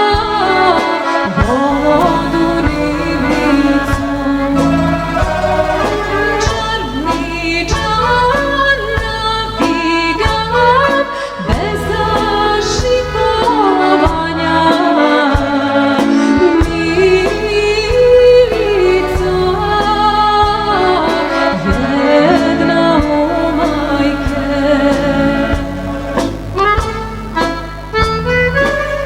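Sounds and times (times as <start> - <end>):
woman singing folk song: 0.0 - 5.2, 6.2 - 25.7
instrumental accompaniment with beat: 0.0 - 29.0.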